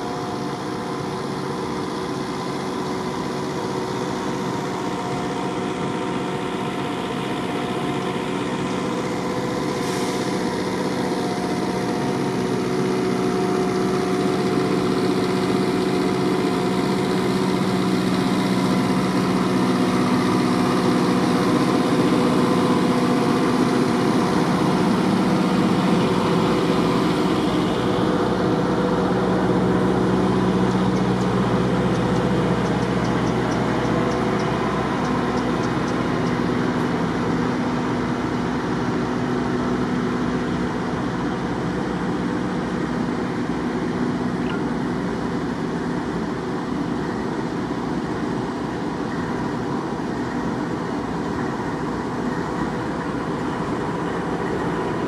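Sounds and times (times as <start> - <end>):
diesel locomotive engine idling: 0.0 - 55.0.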